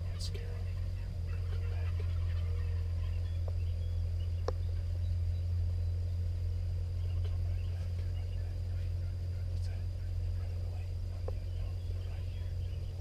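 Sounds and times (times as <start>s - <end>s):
faint bird chirps: 0.0s - 13.0s
steady low hum: 0.0s - 13.0s.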